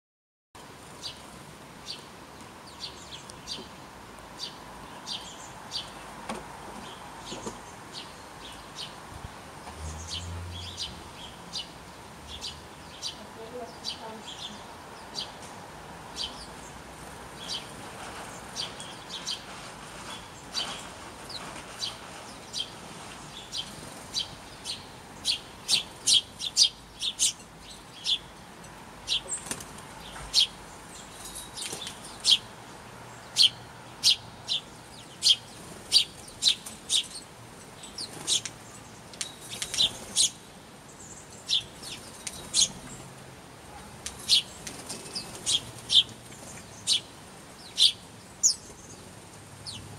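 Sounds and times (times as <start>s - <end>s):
small birds chirping: 0.9s - 49.9s.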